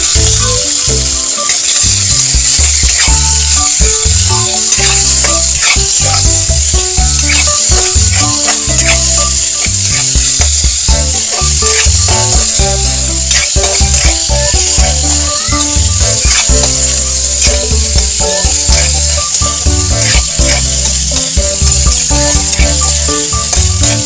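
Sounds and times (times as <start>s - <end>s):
background music with bass line: 0.0s - 24.0s
meat sizzling in a wok: 0.0s - 24.0s.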